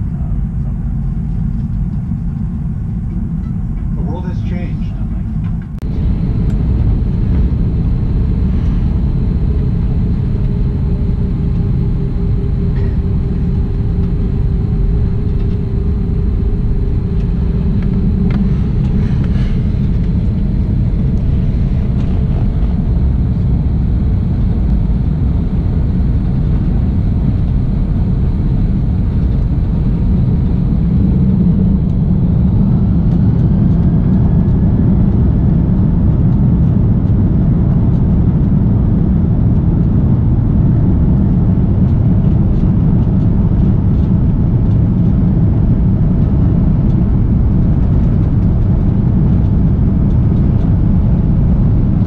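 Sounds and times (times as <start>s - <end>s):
faint rising engine whine: 0.0s - 52.0s
jet engines rumbling: 0.0s - 52.0s.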